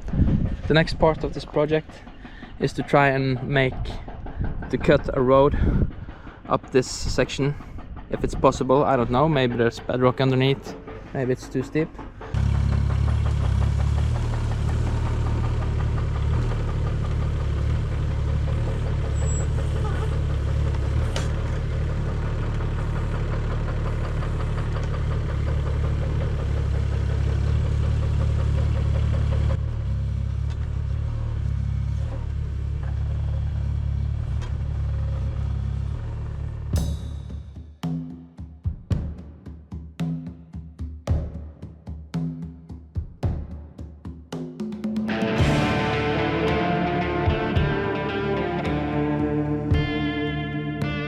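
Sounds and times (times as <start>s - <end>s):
excavator diesel engine running: 0.0s - 36.7s, 45.1s - 51.0s.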